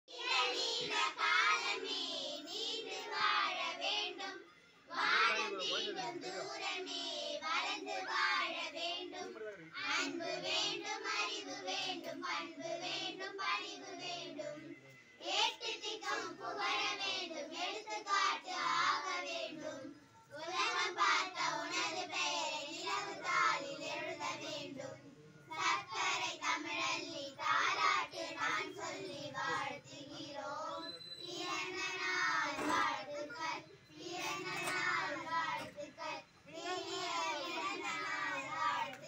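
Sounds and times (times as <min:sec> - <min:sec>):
child singing unaccompanied: 0:00.1 - 0:39.0.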